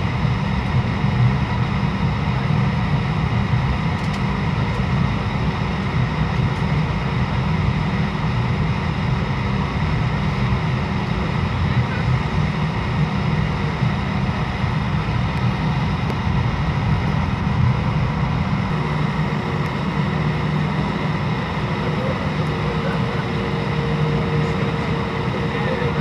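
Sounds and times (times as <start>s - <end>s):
jet engines low rumble with whine: 0.0s - 26.0s.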